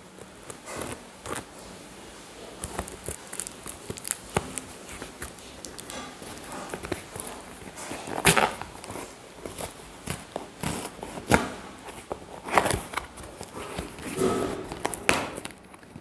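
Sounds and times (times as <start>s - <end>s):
paper parcel tearing: 0.0s - 16.0s.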